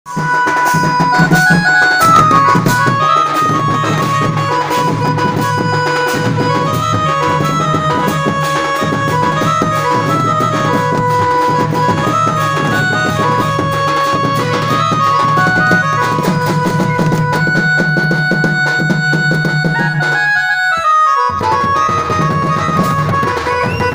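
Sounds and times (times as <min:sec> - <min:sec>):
band music melody: 0:00.1 - 0:23.9
steady drumming: 0:00.1 - 0:23.9.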